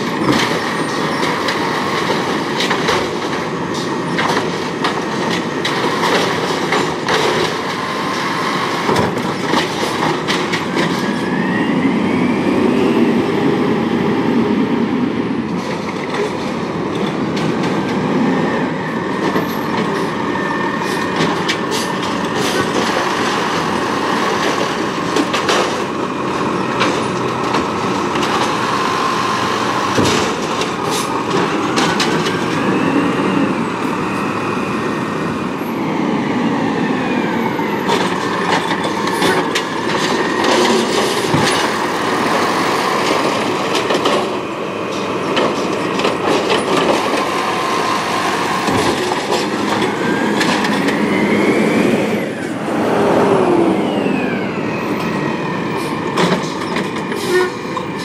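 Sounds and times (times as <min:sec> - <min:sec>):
diesel engine under load: 0:00.0 - 0:58.0
hydraulics whining: 0:00.0 - 0:58.0.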